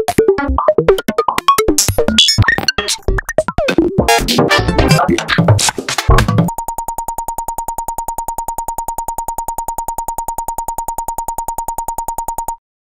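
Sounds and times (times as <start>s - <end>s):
pulsing synthesizer tone: 2.1s - 12.6s.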